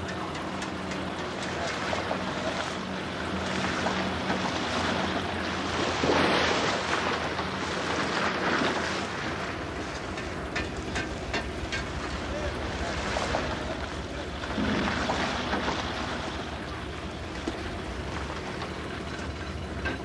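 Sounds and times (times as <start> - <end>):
boat engine humming: 0.0 - 20.0
sea water washing: 0.0 - 20.0
net splashing through water: 1.4 - 18.7.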